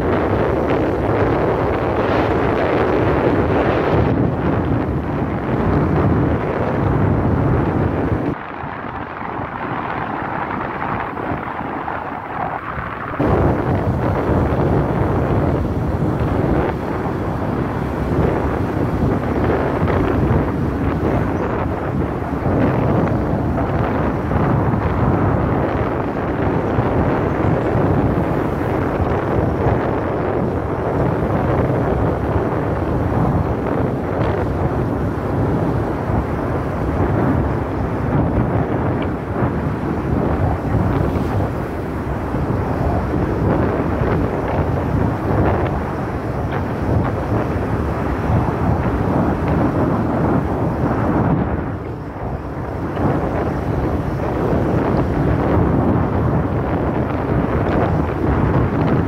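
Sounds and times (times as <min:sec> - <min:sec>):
road and vehicle noise: 0:00.0 - 0:59.0
wind buffeting microphone: 0:00.0 - 0:59.0.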